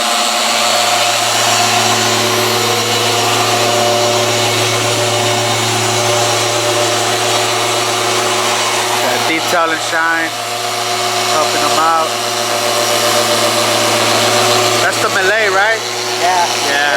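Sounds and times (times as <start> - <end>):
car polisher motor whining: 0.0 - 16.9.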